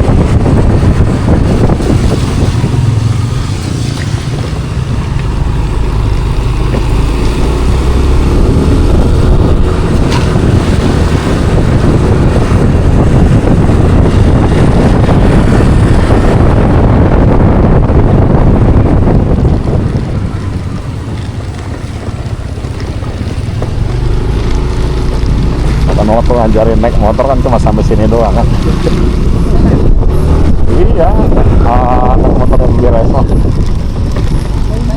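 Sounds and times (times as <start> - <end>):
scooter road noise: 0.0 - 34.9
wind buffeting microphone: 0.0 - 34.9.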